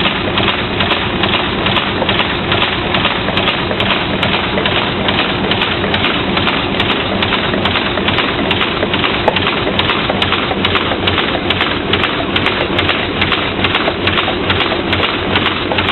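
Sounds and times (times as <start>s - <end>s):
paper cup machine clattering: 0.0s - 15.9s.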